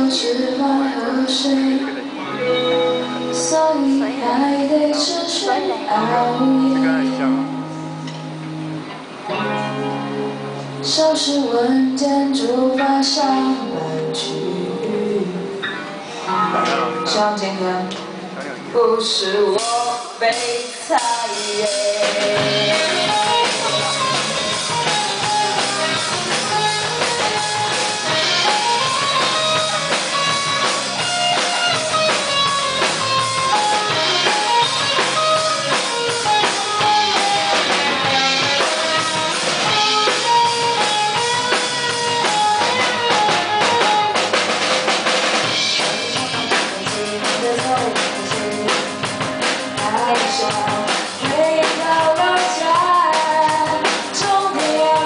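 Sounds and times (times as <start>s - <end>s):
drum kit: 0.0s - 15.4s, 16.0s - 55.0s
bass guitar: 0.0s - 20.4s, 21.0s - 55.0s
electric guitars playing melody: 0.0s - 55.0s.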